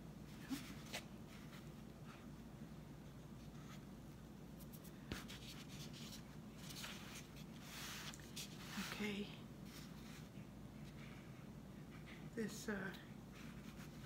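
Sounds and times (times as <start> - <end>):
faint rubbing and handling: 0.2 - 12.3, 13.2 - 14.0.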